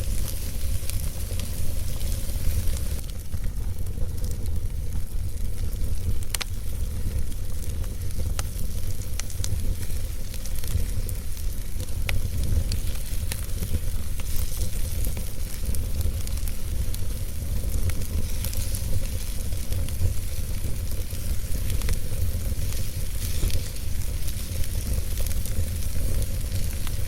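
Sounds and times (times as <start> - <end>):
burning logs crackling and popping: 0.0 - 27.0
fire flames rumbling: 0.0 - 27.0.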